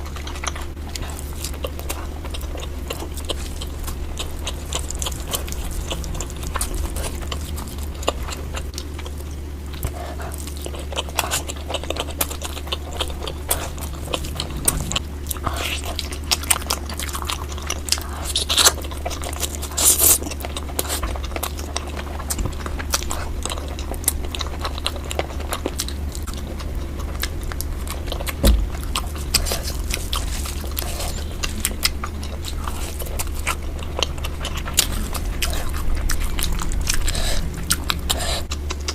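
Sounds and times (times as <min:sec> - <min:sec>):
biting and chewing food: 0:00.0 - 0:38.9
steady low hum: 0:00.0 - 0:38.9.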